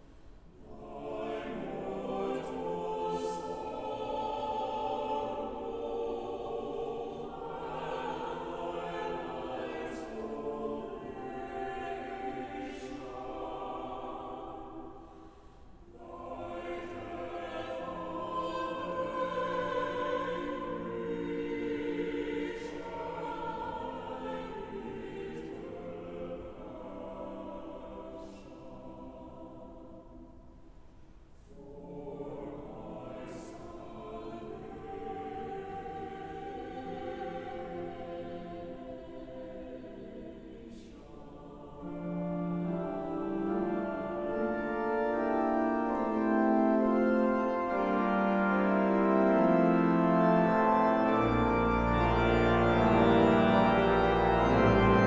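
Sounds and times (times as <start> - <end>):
choir singing: 0.4 - 30.6, 31.4 - 55.0.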